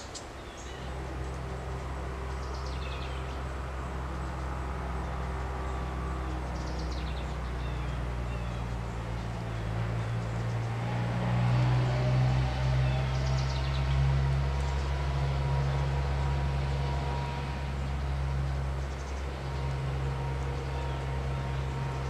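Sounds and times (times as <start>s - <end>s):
low-pitched hum: 0.5s - 22.0s.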